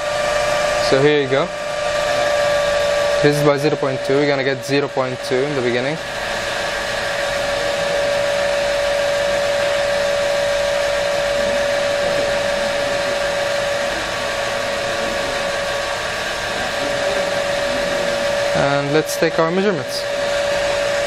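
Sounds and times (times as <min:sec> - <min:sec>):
electric motor whirring: 0:00.0 - 0:21.0
steady high whine: 0:00.0 - 0:21.0.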